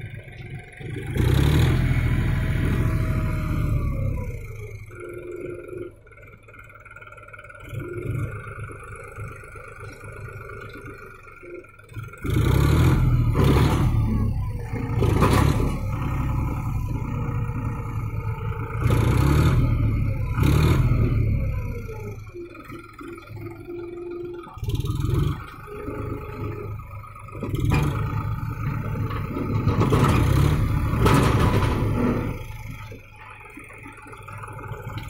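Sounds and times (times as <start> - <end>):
tractor diesel engine revving: 0.0 - 35.0.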